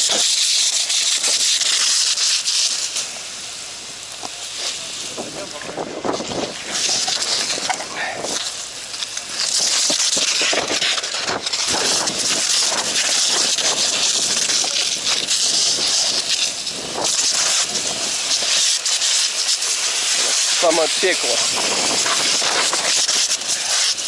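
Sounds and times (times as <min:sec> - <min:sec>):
crackles and pops: 0:00.0 - 0:24.0
fire hose spraying water: 0:00.0 - 0:24.0.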